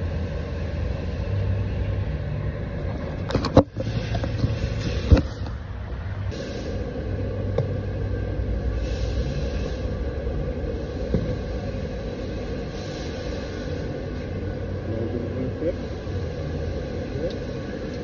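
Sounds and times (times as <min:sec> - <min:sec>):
low rumble with hum: 0:00.0 - 0:18.0.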